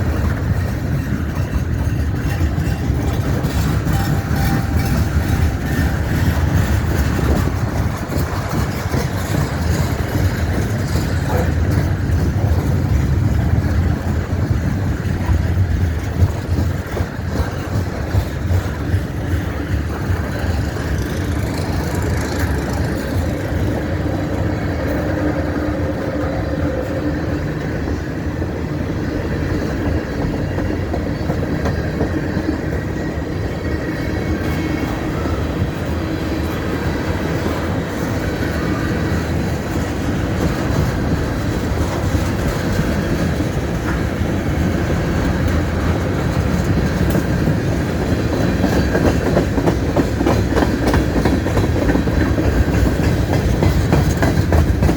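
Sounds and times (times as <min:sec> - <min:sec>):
train cars clanking: 0:00.0 - 0:54.9
train wheels rumbling on rails: 0:00.0 - 0:54.9.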